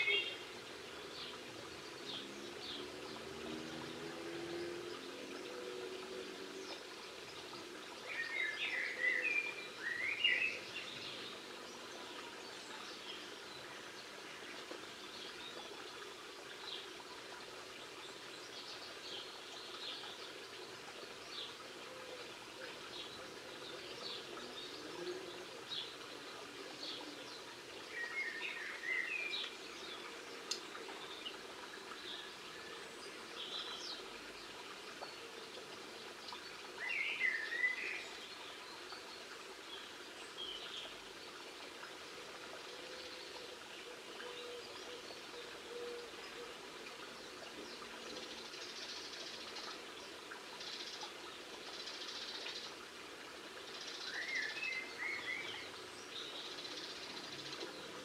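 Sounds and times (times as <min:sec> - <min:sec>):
outdoor background noise: 0:00.0 - 0:58.0
songbirds chirping: 0:00.0 - 0:58.0.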